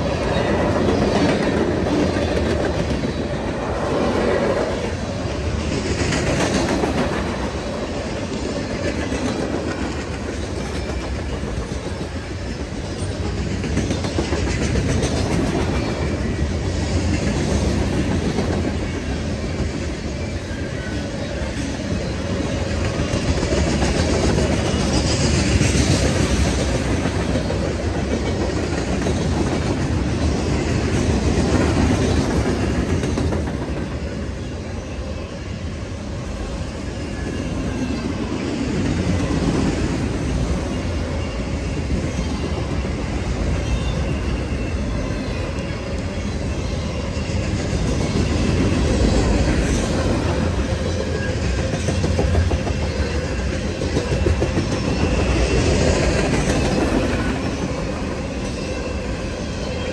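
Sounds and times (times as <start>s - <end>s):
train wheels clickety-clack: 0.0s - 59.9s.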